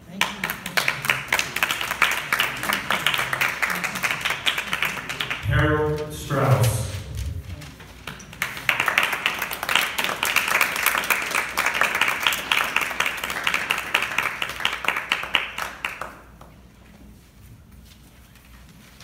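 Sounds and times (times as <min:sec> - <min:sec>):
crowd applauding in a hall: 0:00.0 - 0:06.8, 0:07.6 - 0:16.6.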